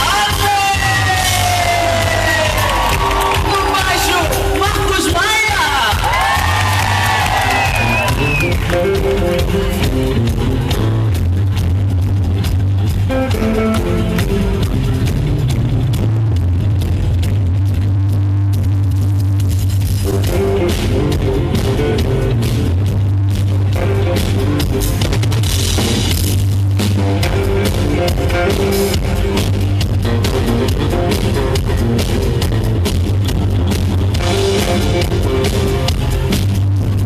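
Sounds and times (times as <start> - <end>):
live band playing instrumental: 0.0 - 37.0.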